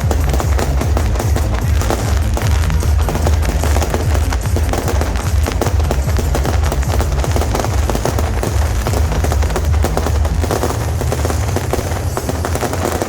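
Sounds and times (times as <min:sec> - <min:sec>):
firework rockets cracking and popping: 0:00.0 - 0:13.0.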